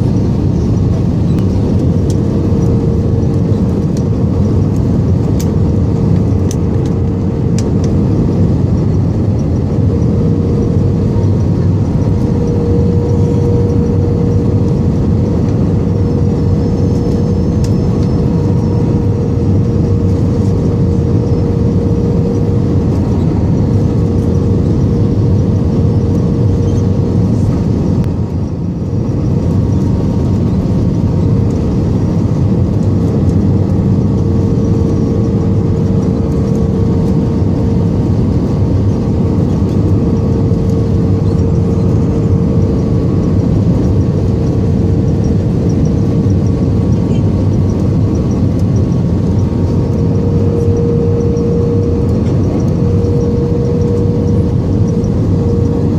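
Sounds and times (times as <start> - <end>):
jet engine and airflow in cabin: 0.0 - 55.9
mid-pitched hum: 0.0 - 55.9.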